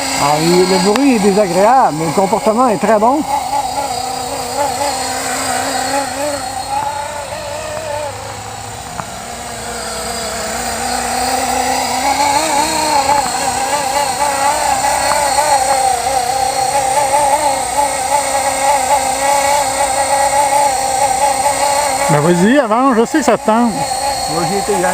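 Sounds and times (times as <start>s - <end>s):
rc helicopter rotor whine: 0.0s - 24.9s.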